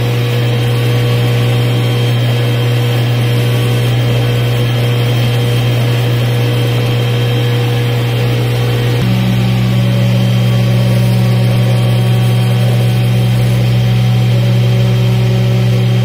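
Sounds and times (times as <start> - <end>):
cutting machine hum and whine: 0.0 - 16.0.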